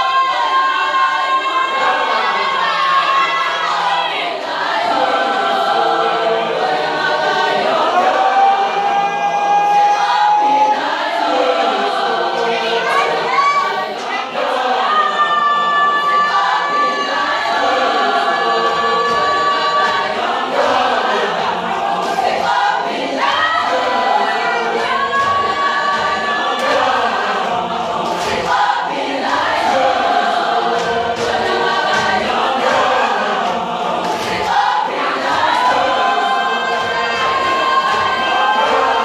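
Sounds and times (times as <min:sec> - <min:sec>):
choir singing a hymn: 0:00.0 - 0:39.0.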